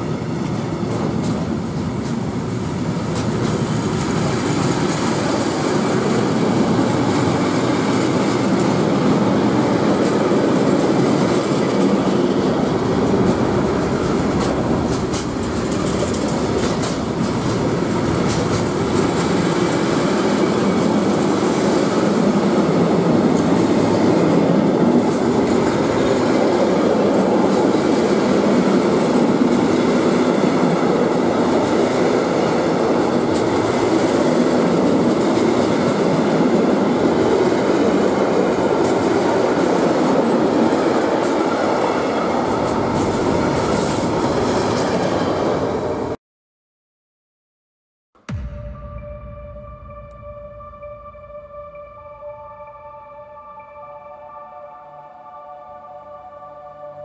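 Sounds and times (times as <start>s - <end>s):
freight train wheels rumbling on rail: 0.0s - 46.2s.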